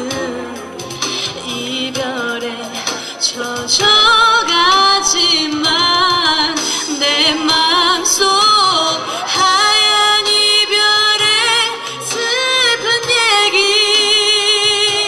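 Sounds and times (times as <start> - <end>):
woman singing into microphone: 0.0 - 15.0.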